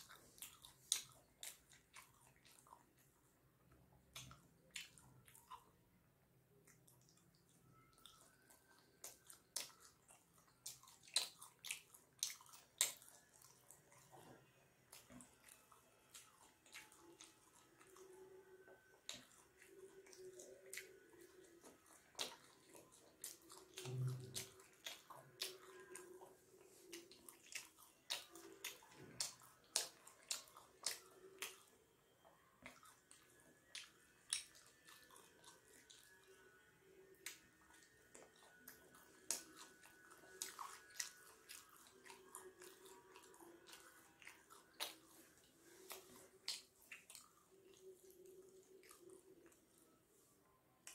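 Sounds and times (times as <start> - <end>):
wet chewing and mouth smacking: 0.0 - 50.9.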